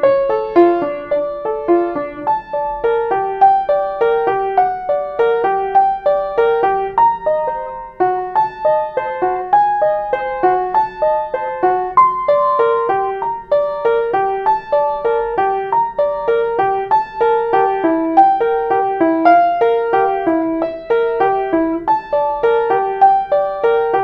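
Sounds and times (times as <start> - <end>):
solo piano broken chords: 0.0 - 24.0.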